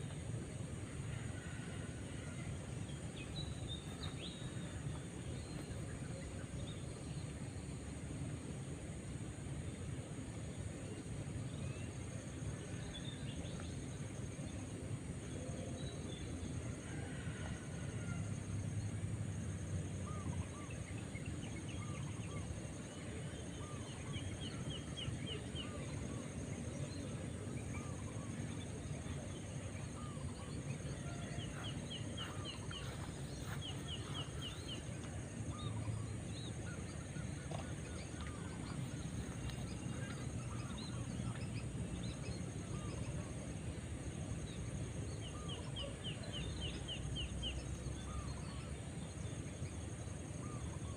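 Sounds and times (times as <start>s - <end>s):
steady background hiss: 0.0s - 50.9s.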